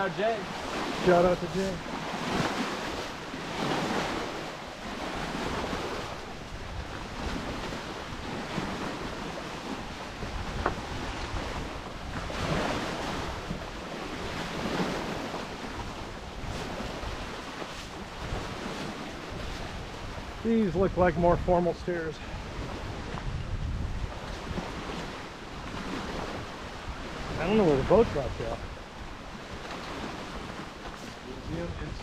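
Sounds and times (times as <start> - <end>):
waves washing against rocky shore: 0.0 - 32.0
wind on microphone: 0.0 - 32.0.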